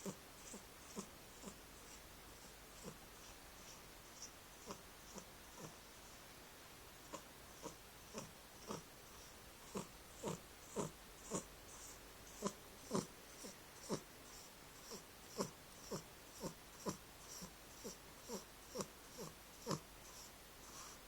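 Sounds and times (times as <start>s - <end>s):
cat snoring: 0.0s - 6.2s, 7.0s - 21.0s.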